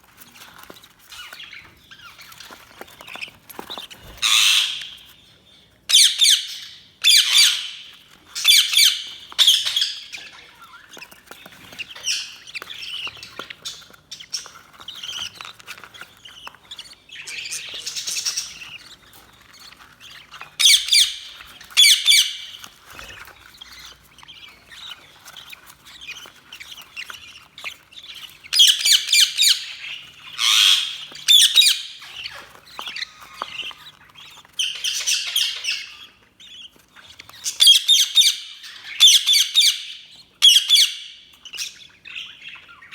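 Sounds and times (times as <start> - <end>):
budgerigars chirping and warbling: 0.0 - 42.9
harsh squawking calls: 1.1 - 5.2, 5.9 - 42.9.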